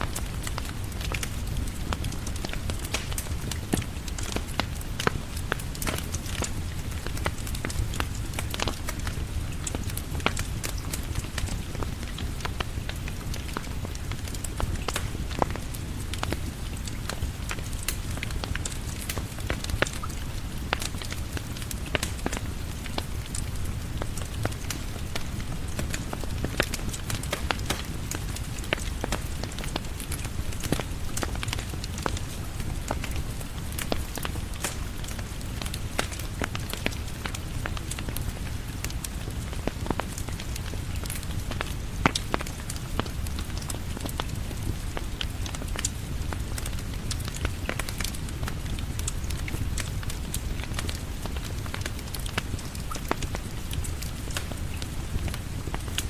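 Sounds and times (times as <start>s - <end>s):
rain falling on porch: 0.0s - 56.0s
wood fire crackling: 0.0s - 56.0s.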